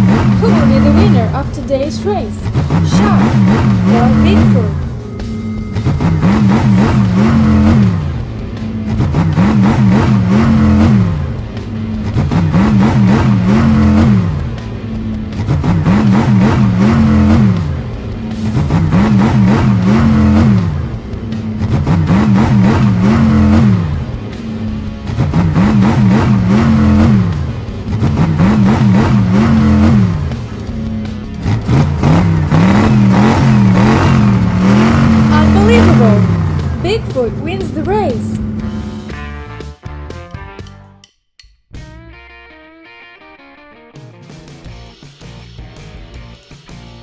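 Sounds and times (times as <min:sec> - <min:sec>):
cartoon truck engines revving: 0:00.0 - 0:39.8
background music: 0:00.0 - 0:47.0.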